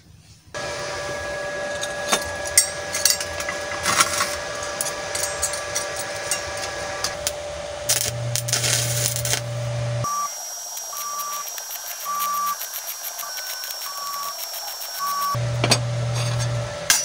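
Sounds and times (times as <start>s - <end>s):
arc welder crackling sizzle: 0.6s - 16.9s
steady hum: 0.6s - 17.0s.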